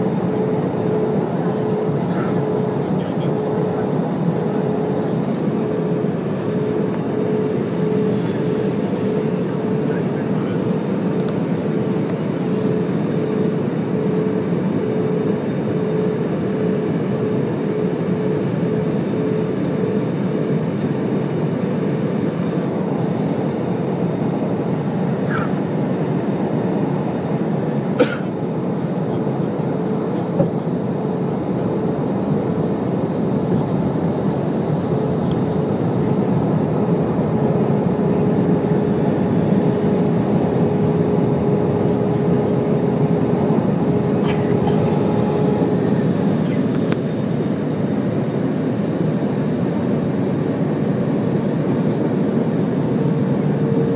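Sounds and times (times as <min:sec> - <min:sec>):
airliner engines and airflow drone: 0:00.0 - 0:53.9.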